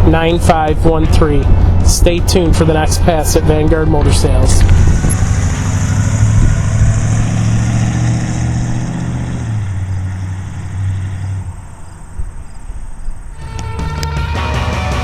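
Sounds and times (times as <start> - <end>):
car engine running: 0.0 - 14.3.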